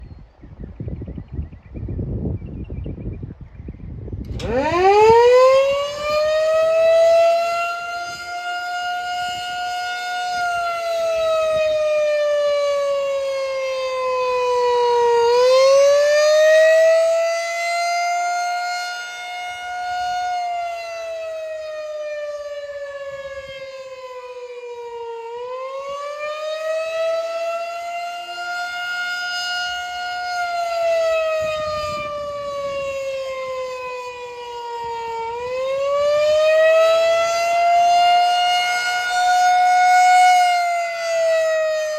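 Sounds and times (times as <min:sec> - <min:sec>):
tornado siren wailing: 0:03.8 - 0:41.9.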